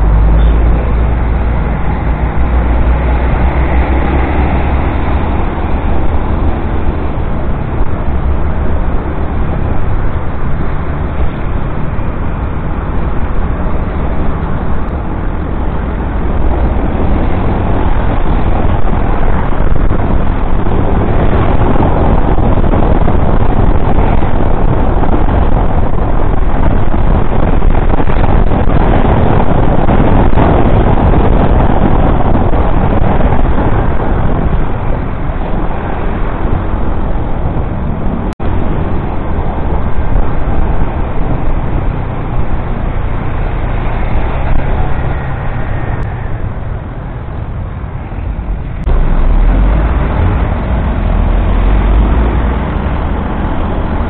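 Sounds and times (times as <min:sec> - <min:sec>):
motorcycle road noise: 0:00.0 - 0:54.0
wind rushing: 0:00.0 - 0:54.0.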